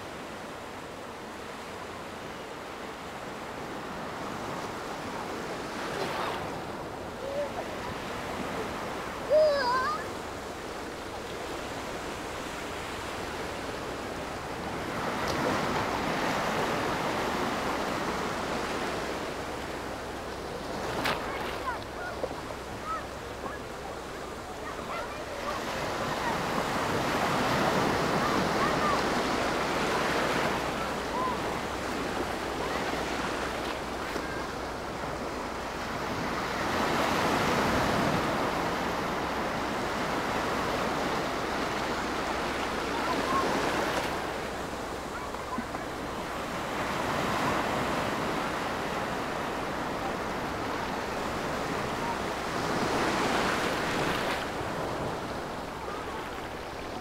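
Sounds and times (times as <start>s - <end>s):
sea waves rushing in and drawing back: 0.0s - 57.0s.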